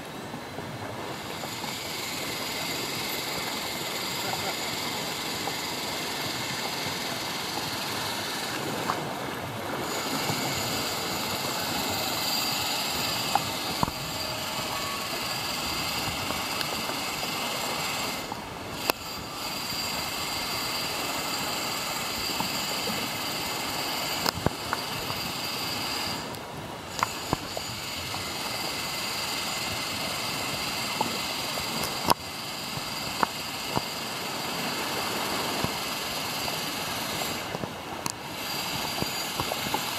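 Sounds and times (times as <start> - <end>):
rushing water noise: 0.0 - 39.9.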